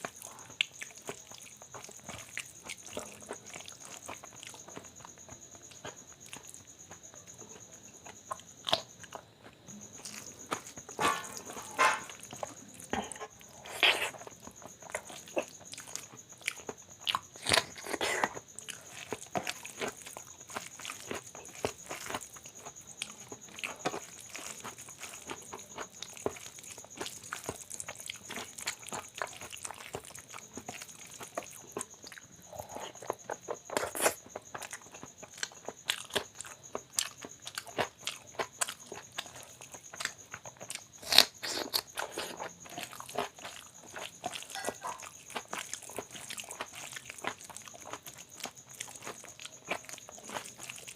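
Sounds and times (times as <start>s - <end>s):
food crunches: 0.0s - 50.9s
person chewing food: 0.0s - 50.9s.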